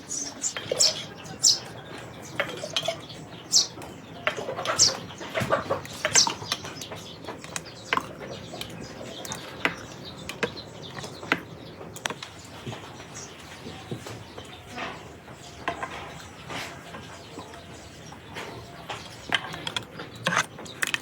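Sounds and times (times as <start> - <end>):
birds chirping sharp calls: 0.0 - 21.0.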